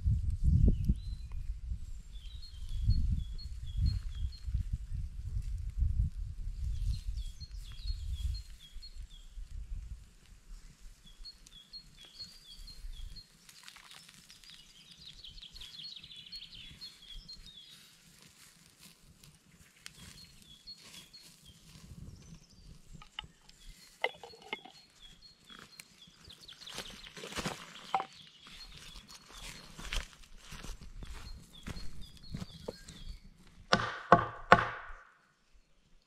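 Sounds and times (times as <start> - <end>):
small birds chirping: 0.6 - 5.1, 6.6 - 9.6, 10.5 - 33.6.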